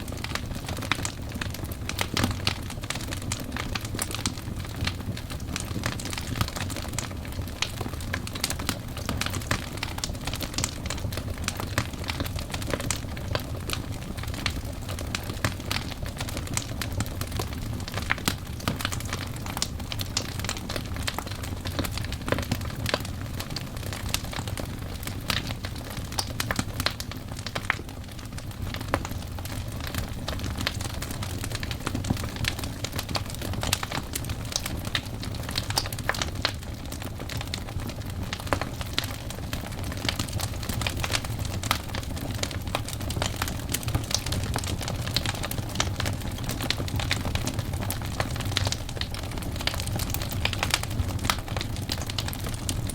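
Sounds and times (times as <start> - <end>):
logs crackling and popping: 0.0 - 52.9
low rumble of flames: 0.0 - 52.9.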